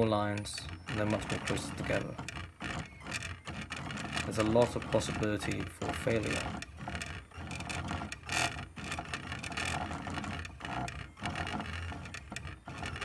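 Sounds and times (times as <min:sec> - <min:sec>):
stepper motors buzzing and whirring: 0:00.0 - 0:13.0.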